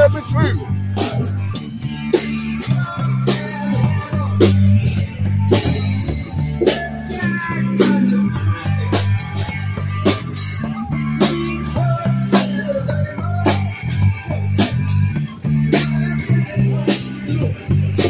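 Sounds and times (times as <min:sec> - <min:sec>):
drum kit with cymbals: 0:00.0 - 0:18.0
electric bass line: 0:00.0 - 0:18.0.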